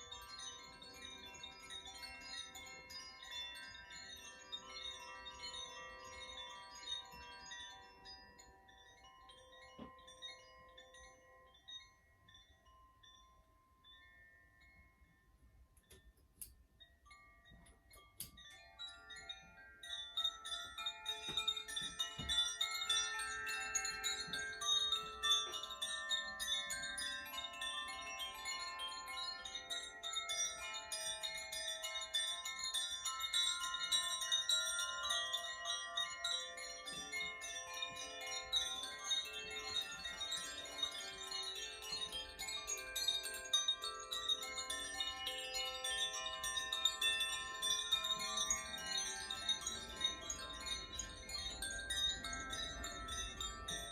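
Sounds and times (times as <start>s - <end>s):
bamboo wind chimes tinkling: 0.0s - 53.9s.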